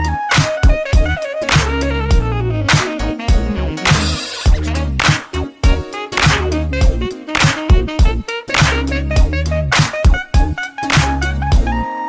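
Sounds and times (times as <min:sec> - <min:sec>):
background music with drum beat: 0:00.0 - 0:11.7.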